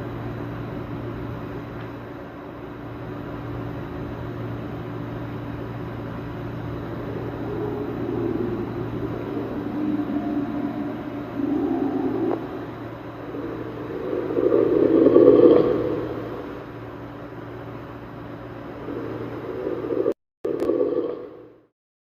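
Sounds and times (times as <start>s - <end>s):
low droning hum: 0.0s - 21.7s.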